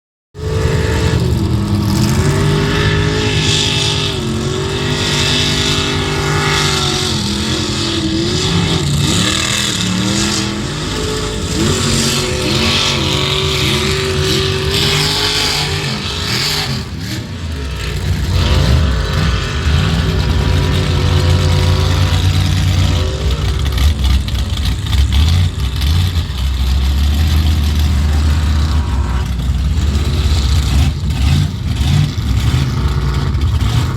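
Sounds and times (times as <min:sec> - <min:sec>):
truck engine revving: 0:00.4 - 0:33.9.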